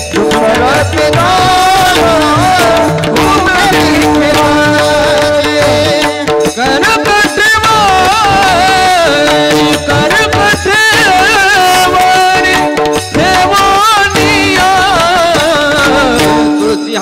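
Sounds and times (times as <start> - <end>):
hand drums: 0.0 - 17.0
people singing devotional melody: 0.0 - 17.0.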